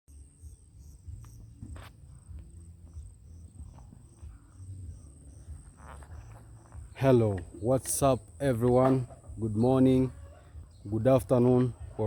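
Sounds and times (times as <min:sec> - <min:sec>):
insects trilling: 0:00.1 - 0:12.0.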